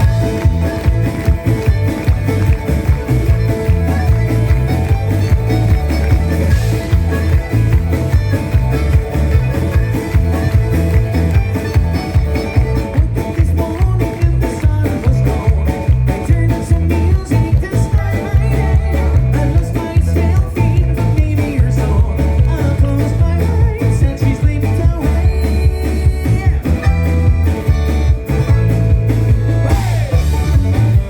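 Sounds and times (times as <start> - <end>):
person singing: 0.0 - 27.1, 29.5 - 31.0
live rock band playing: 0.0 - 31.0.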